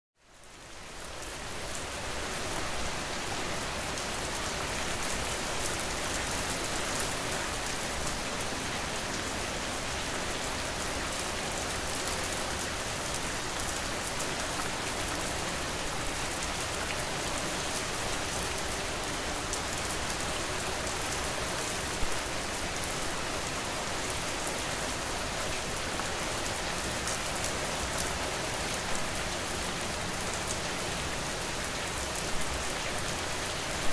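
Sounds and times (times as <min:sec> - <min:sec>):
heavy rain: 0:00.2 - 0:33.9.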